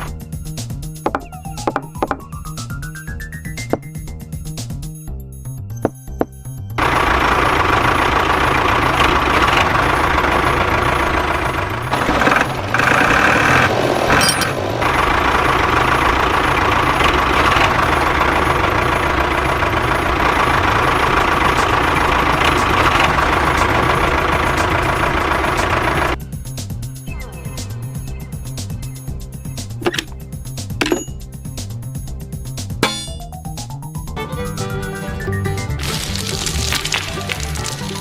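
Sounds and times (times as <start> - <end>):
truck engine rumbling: 0.0 - 4.8, 5.4 - 38.0.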